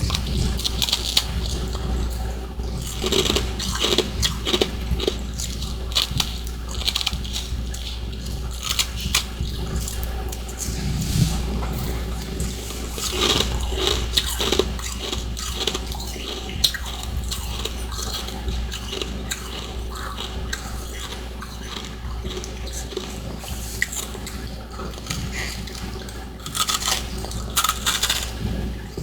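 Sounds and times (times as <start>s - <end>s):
chewing and crunching ice: 0.0s - 29.0s.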